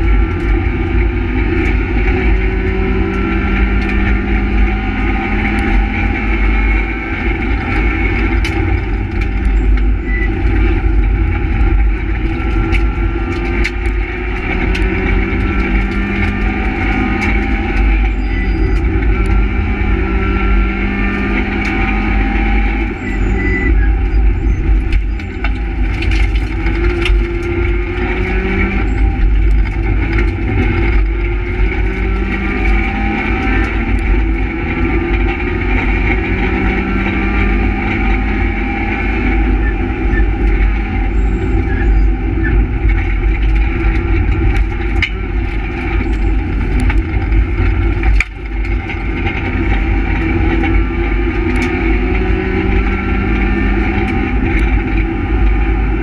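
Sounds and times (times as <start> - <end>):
car knocks and rattles: 0.0 - 56.0
rally car engine revving: 0.0 - 56.0
tyre and road noise: 0.0 - 56.0.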